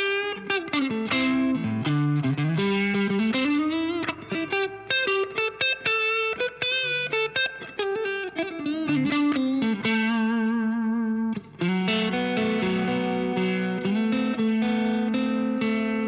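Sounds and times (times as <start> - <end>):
overdriven electric guitar: 0.0 - 16.0.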